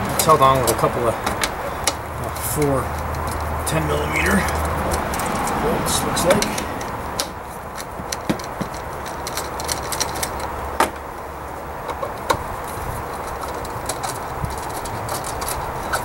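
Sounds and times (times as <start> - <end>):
hand tool clicking on bolts: 0.0 - 11.1, 11.8 - 16.0
steady low rumble: 0.0 - 16.0.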